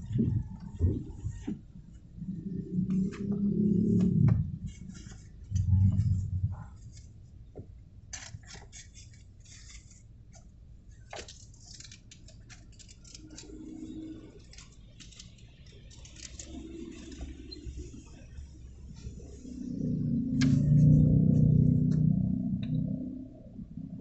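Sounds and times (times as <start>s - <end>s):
idling traffic rumble: 0.0s - 24.0s.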